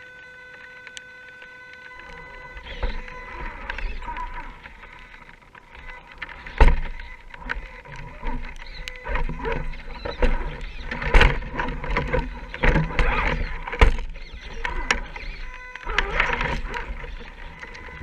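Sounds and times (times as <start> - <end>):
faint motor whine: 0.0 - 18.0
steady rough noise: 0.0 - 18.0
knocks and scrapes on rocks: 2.0 - 18.0.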